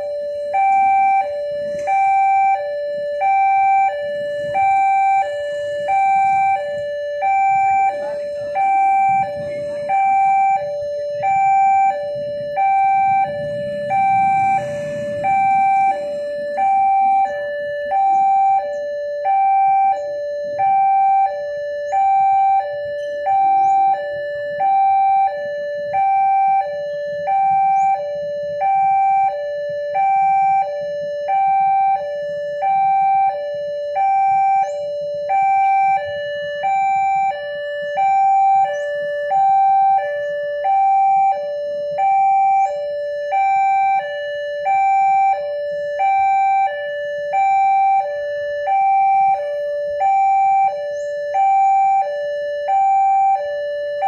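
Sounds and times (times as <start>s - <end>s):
two-tone crossing alarm: 0.0s - 54.0s.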